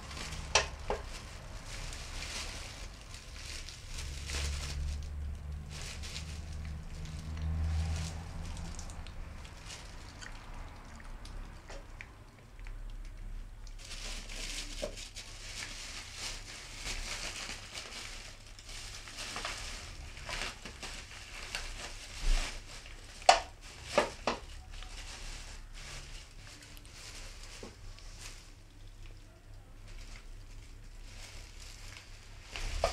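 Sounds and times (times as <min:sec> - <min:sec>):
plastic bag crinkling: 0:00.0 - 0:11.9, 0:13.6 - 0:32.9.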